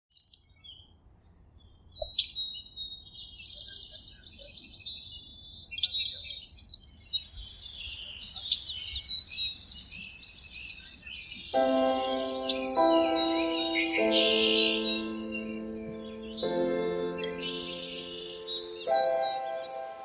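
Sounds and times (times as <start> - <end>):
birds singing and chirping: 2.0 - 20.0.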